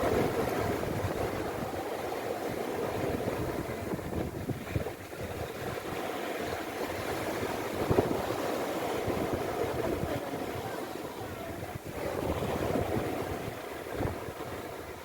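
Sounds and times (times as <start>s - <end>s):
sea waves washing on shore: 0.0s - 15.0s
wind rumbling on microphone: 0.0s - 15.0s.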